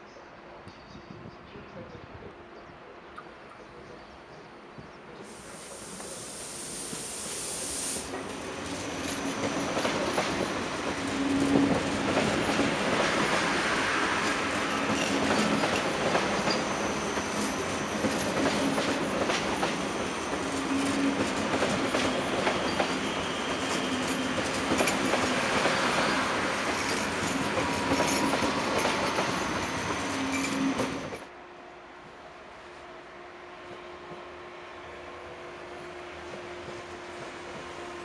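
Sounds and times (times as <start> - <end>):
train rolling past platform: 4.1 - 38.0.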